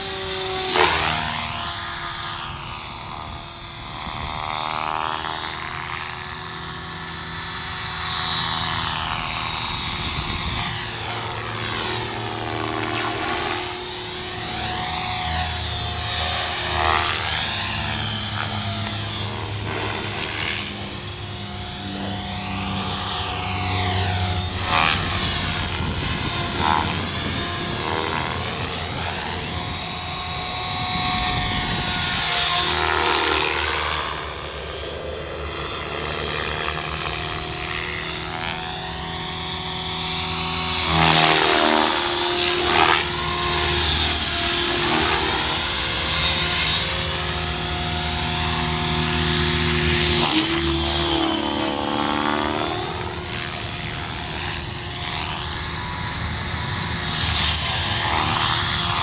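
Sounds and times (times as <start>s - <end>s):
model helicopter rotor whir: 0.0s - 59.0s
steady high whine: 0.0s - 59.0s.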